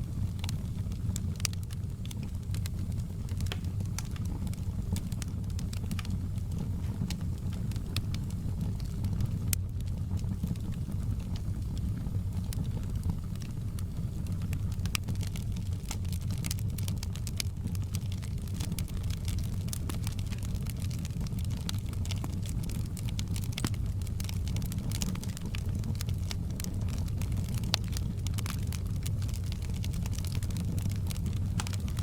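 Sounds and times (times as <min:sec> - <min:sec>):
fire popping and snapping: 0:00.0 - 0:32.0
wood fire rumbling: 0:00.0 - 0:32.0.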